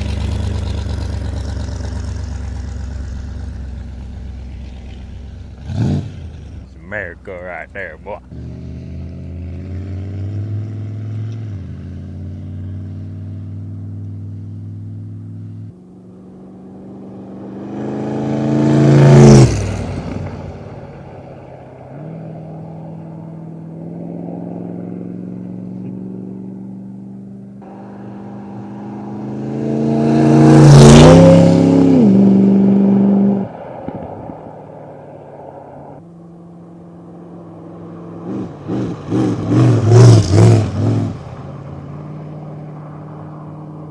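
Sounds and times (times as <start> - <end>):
trike engine accelerating: 0.0 - 34.4, 36.0 - 43.9.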